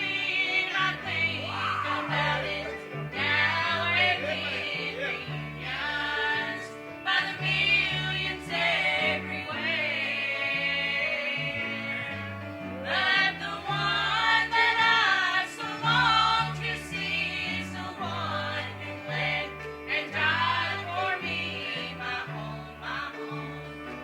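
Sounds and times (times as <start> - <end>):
instrumental accompaniment: 0.0 - 24.0
voices singing a hymn: 0.0 - 24.0.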